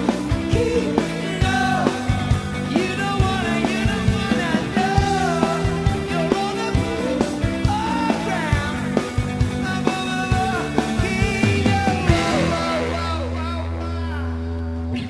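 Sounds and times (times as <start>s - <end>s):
steady drum beat: 0.0s - 13.8s
bass guitar: 0.0s - 15.0s
electric guitar: 0.0s - 15.0s
male lead vocal: 0.0s - 15.0s.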